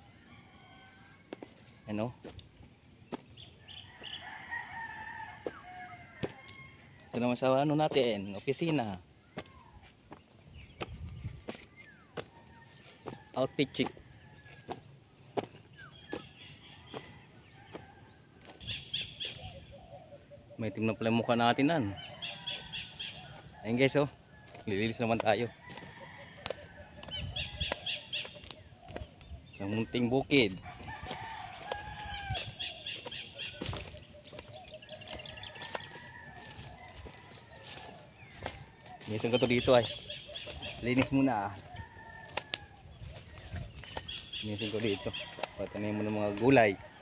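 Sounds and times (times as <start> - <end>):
footsteps on dry ground: 0.0 - 20.0, 21.6 - 47.0
distant chickens calling: 0.0 - 47.0
small birds chattering trills: 0.0 - 47.0.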